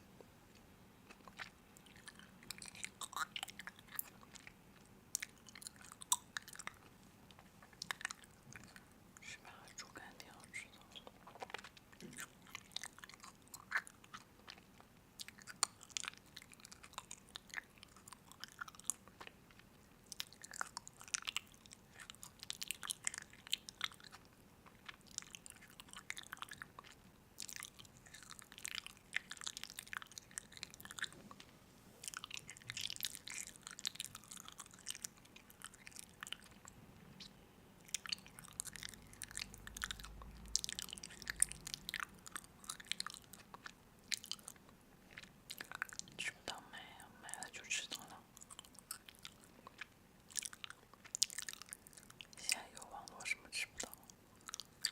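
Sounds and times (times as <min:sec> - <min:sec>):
person chewing crunchy food: 0:00.5 - 0:08.8, 0:10.8 - 0:31.4, 0:32.0 - 0:36.8, 0:37.8 - 0:46.2, 0:47.9 - 0:54.9.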